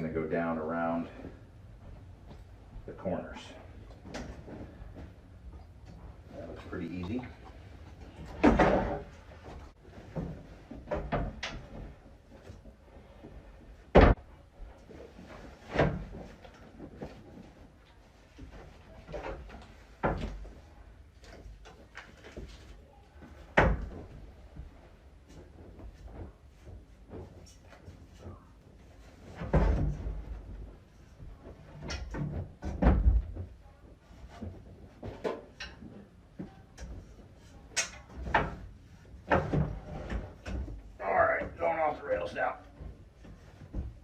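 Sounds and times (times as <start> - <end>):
rustling and scraping: 0.0 - 44.0.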